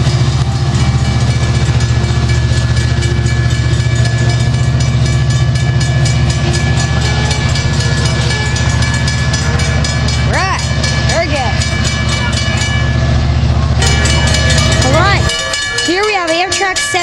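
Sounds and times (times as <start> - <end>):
train diesel engine drone: 0.0 - 17.0.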